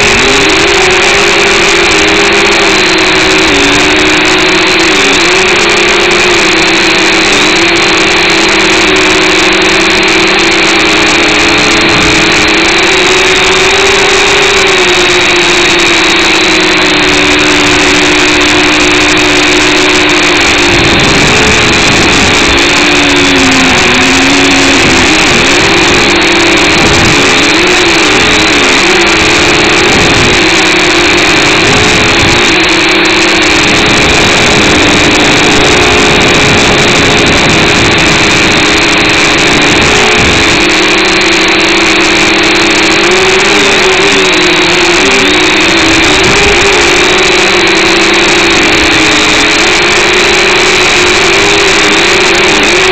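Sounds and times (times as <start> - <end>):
quadcopter propellers whirring: 0.0 - 52.9.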